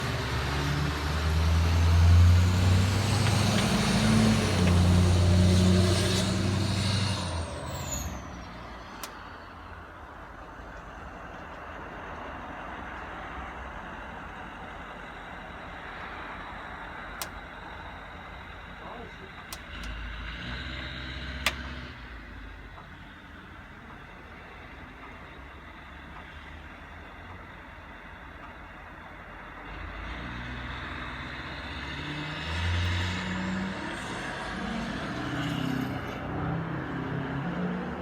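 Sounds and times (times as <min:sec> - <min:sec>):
diesel truck engine running loud: 0:00.0 - 0:38.0
faint steady engine rumble: 0:00.0 - 0:38.0.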